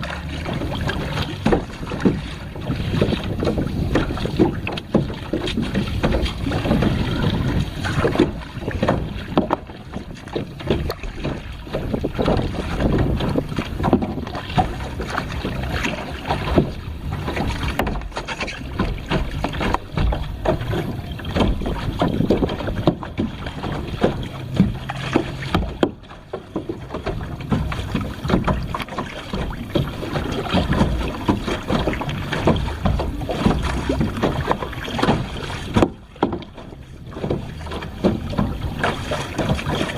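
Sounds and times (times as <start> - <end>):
water splashing around kayak: 0.0 - 39.9
wind buffeting microphone: 0.0 - 39.9.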